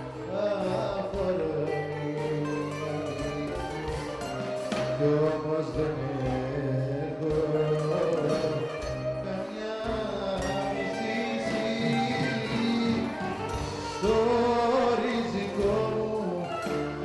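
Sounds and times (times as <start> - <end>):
bouzouki: 0.0 - 17.0
drums: 0.0 - 17.0
man singing into a microphone: 0.0 - 17.0.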